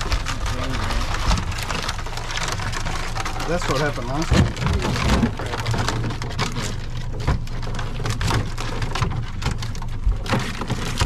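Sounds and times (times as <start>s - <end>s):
crabs scrabbling in plastic basket: 0.0s - 11.0s.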